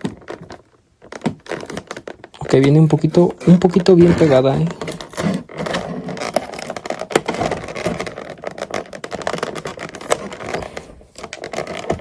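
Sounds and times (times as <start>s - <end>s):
fingers scratching at tape: 1.1s - 12.0s.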